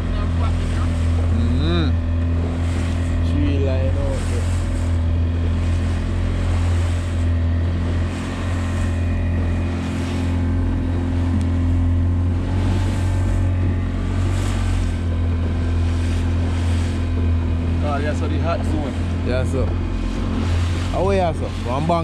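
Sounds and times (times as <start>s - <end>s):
boat motor humming: 0.0s - 22.0s
water rushing along hull: 0.0s - 22.0s.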